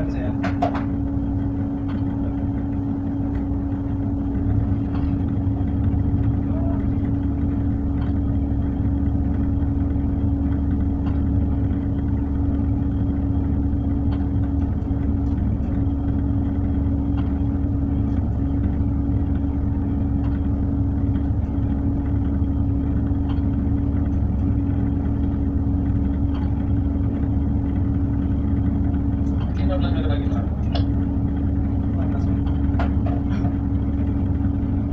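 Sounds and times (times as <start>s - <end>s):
constant hum: 0.0s - 34.9s
diesel engine rumbling: 0.0s - 34.9s.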